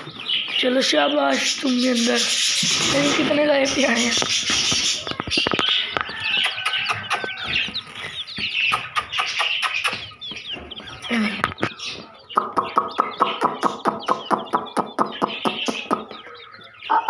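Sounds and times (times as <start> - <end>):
chicks peeping: 0.0 - 17.0
rapid clucking calls: 0.0 - 17.0.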